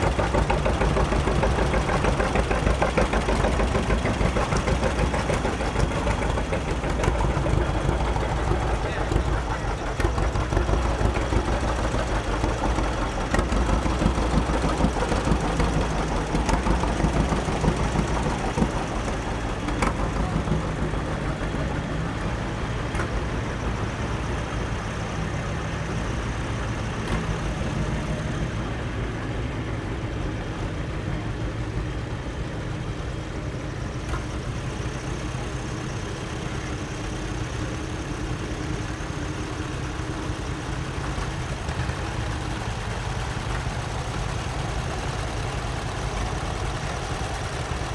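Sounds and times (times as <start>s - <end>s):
tractor engines running: 0.0s - 47.9s.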